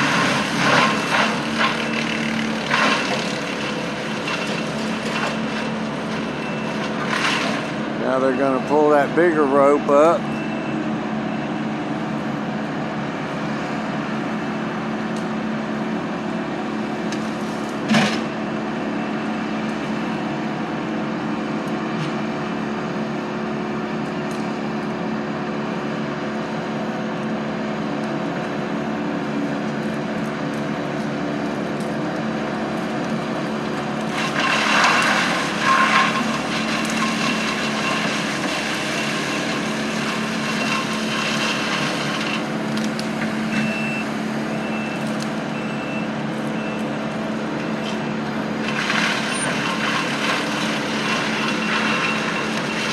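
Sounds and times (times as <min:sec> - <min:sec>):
heavy equipment engine running: 0:00.0 - 0:52.9.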